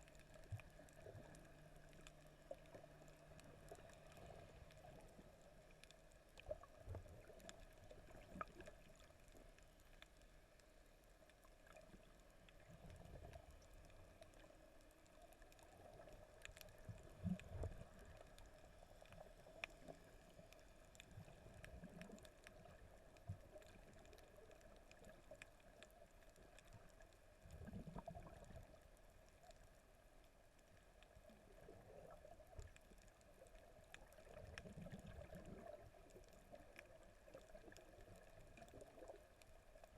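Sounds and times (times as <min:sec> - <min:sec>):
faint clicks: 0:00.0 - 0:39.9.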